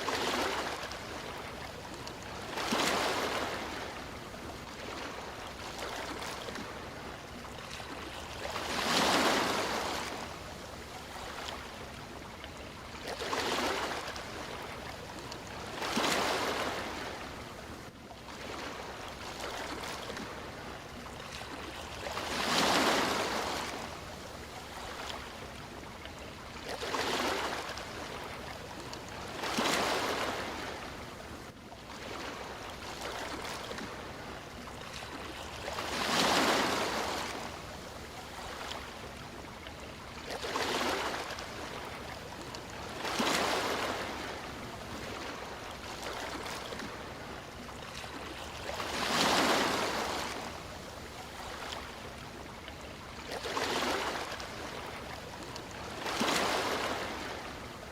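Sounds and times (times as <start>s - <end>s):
sea waves breaking: 0.0s - 57.9s.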